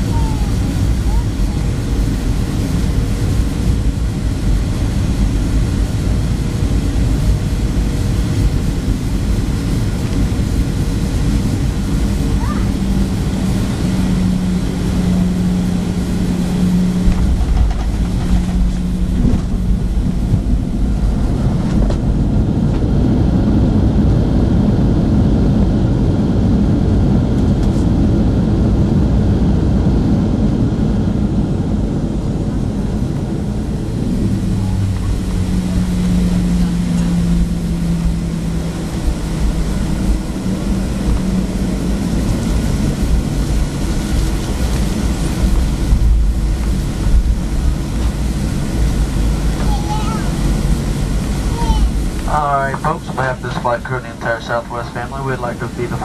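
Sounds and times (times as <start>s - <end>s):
rushing air: 0.0s - 25.0s, 29.4s - 49.6s
jet engines rumbling: 0.0s - 56.0s.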